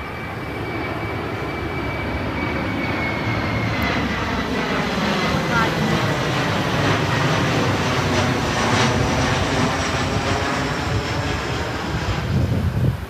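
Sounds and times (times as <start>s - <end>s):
high engine whine: 0.0s - 13.0s
jet airliner engine noise: 0.0s - 13.0s.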